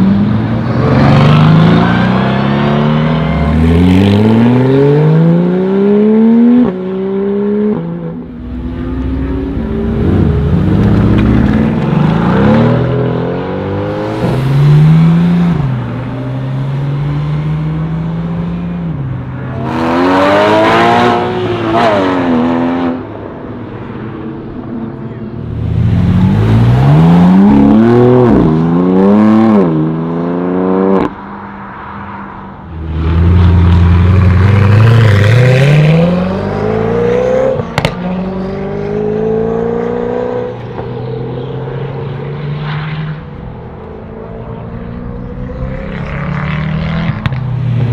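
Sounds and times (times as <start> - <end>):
car engines revving and accelerating: 0.0 - 47.9.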